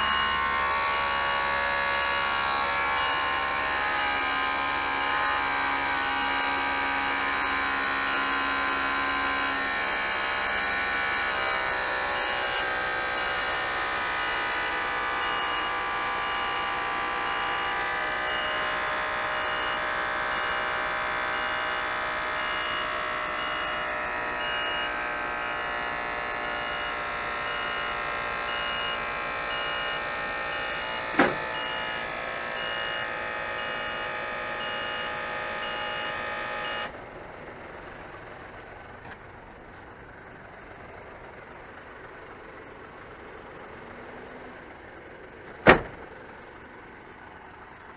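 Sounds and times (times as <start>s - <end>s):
diesel truck idling: 0.0s - 47.9s.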